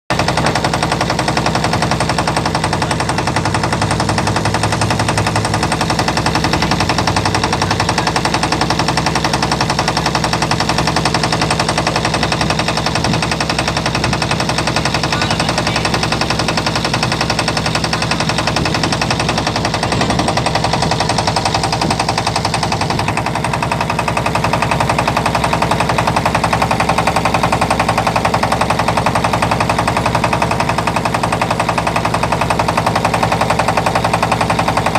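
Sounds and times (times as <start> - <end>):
boat engine knocking: 0.1 - 34.9.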